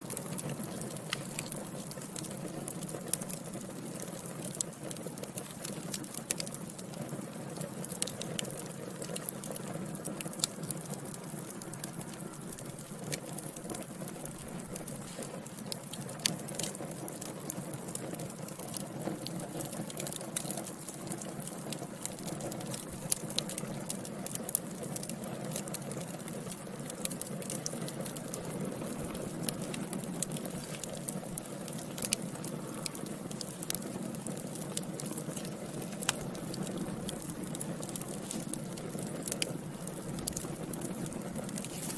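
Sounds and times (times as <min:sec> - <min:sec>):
fire crackling and popping: 0:00.0 - 0:41.9
fire flames rushing: 0:00.1 - 0:41.9.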